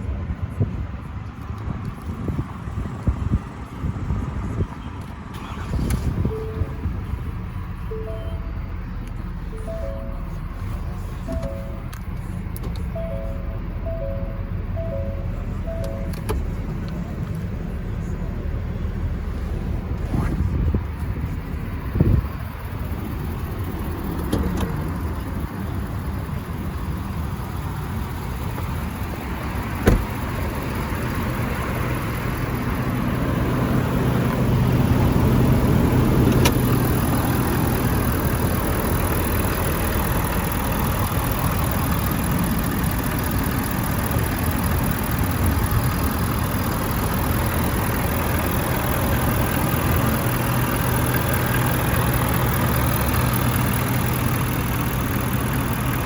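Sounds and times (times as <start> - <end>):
diesel engine idling: 3.7 - 56.0.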